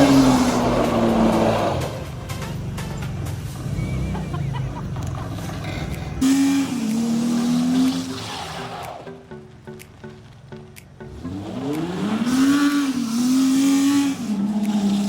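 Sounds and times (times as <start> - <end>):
pickup engine revving: 0.0 - 9.2, 11.0 - 15.0.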